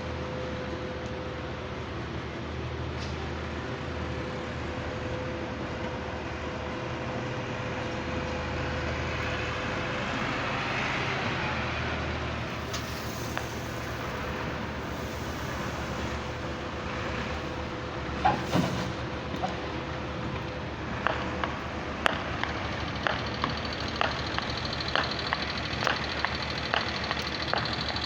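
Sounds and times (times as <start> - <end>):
heavy machinery hum and whine: 0.0 - 28.0.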